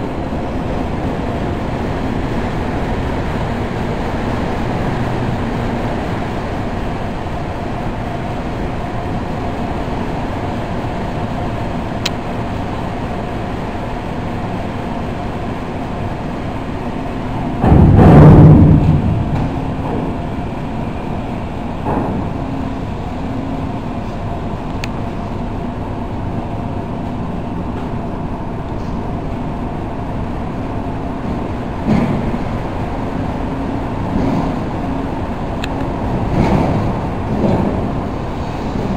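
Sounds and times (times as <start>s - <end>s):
ship machinery drone: 0.0s - 38.9s.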